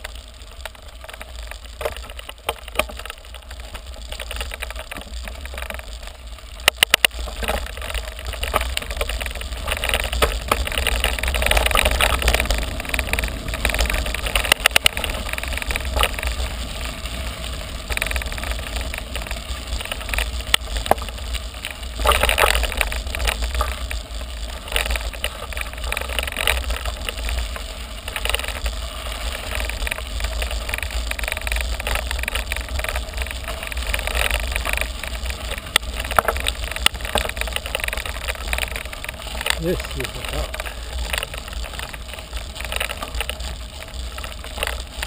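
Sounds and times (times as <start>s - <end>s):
bike clicks and rattles: 0.0s - 45.0s
tyres crunching over gravel: 0.0s - 45.0s
wind rumble on microphone: 0.0s - 45.0s.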